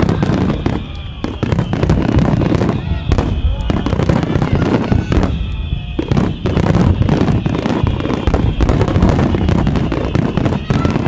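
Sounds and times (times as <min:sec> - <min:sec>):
fireworks booming and crackling: 0:00.0 - 0:11.0.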